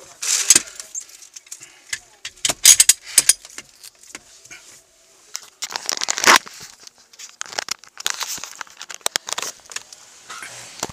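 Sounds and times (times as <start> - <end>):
handling noise rustling and scraping: 0.0 - 10.9.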